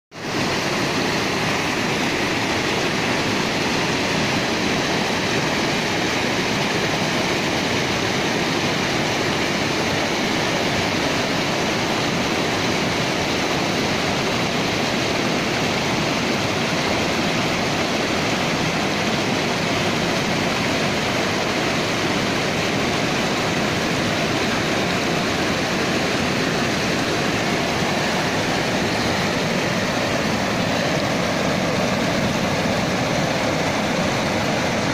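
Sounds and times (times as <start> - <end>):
river rushing over boulders: 0.1 - 34.9.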